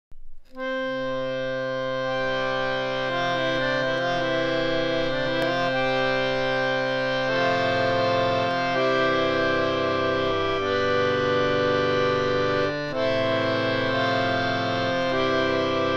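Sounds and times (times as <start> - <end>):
harmonium playing sustained notes: 0.5 - 15.9.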